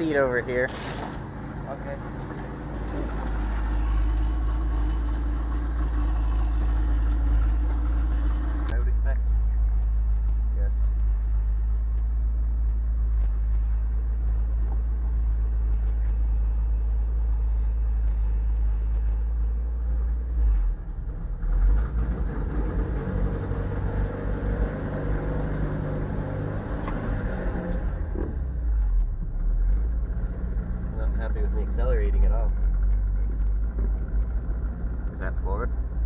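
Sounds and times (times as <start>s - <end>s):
car engine idling and accelerating: 0.0s - 36.0s.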